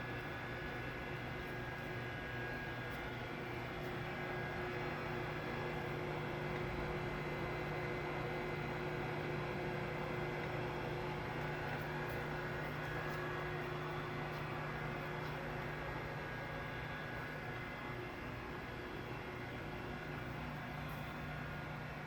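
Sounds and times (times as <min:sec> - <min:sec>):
lathe machine hum: 0:00.0 - 0:22.0.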